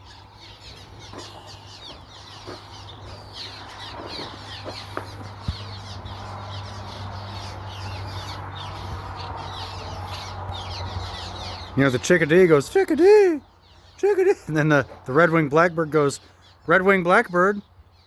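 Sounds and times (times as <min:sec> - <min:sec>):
colony of birds calling: 0:00.0 - 0:18.0.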